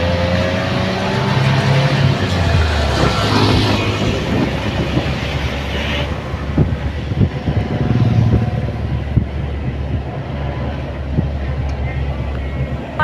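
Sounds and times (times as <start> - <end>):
vehicle engine running: 0.0 - 13.0
wind on microphone: 0.0 - 13.0.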